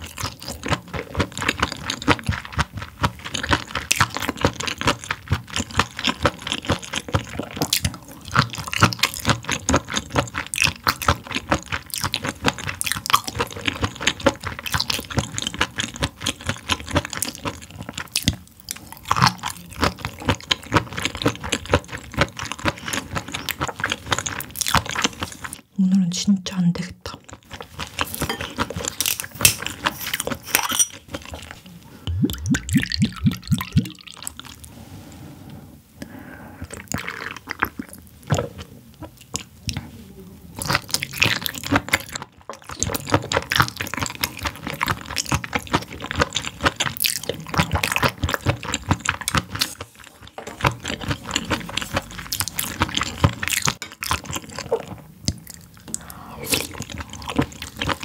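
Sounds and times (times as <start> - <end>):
wet chewing and slurping: 0.0 - 25.7, 27.0 - 58.0.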